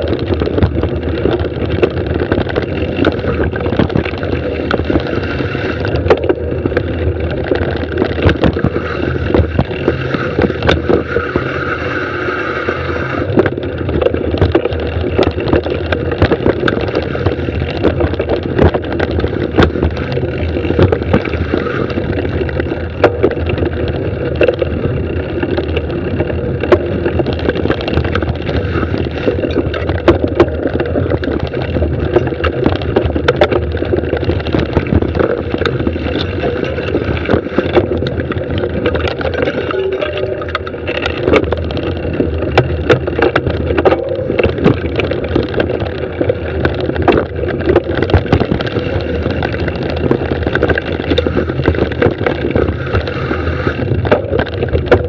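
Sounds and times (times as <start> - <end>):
bike rattling over roots: 0.0 - 55.0
tyre and wind rush: 0.0 - 55.0.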